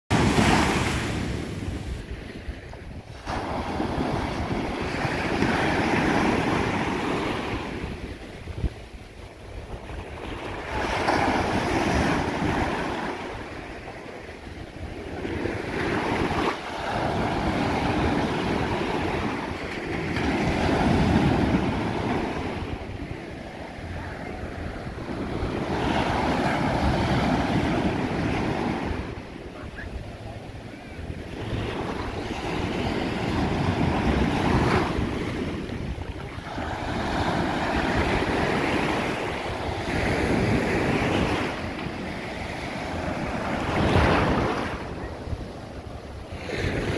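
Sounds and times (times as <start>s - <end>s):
ocean surf breaking on beach: 0.1s - 46.9s
wind buffeting microphone: 0.1s - 46.9s.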